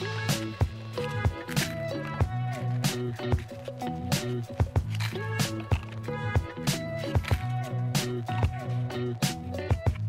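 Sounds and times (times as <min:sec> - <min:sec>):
melodic background music: 0:00.0 - 0:10.0.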